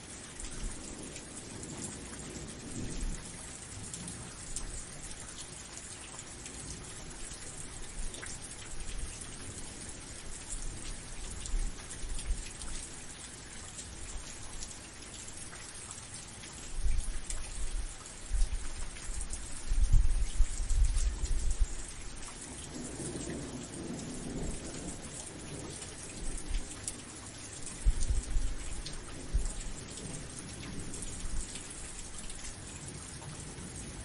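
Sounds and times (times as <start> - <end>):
steady rain: 0.0 - 34.0
low rumble of thunder: 0.1 - 15.7, 16.6 - 34.0.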